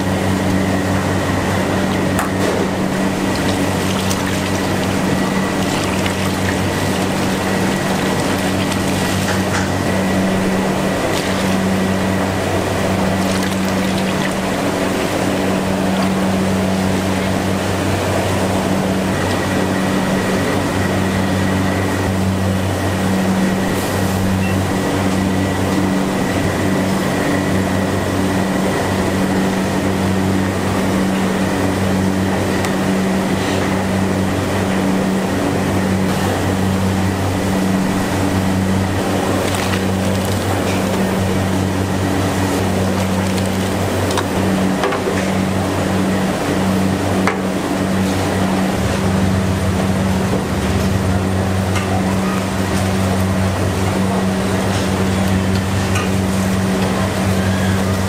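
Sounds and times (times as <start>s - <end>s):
kitchen equipment humming: 0.0s - 58.0s.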